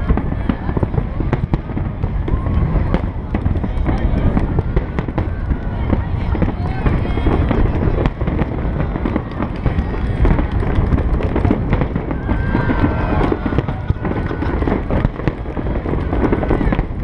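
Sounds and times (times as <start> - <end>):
fireworks bangs and crackles: 0.0 - 17.0
people's voices: 0.0 - 17.0.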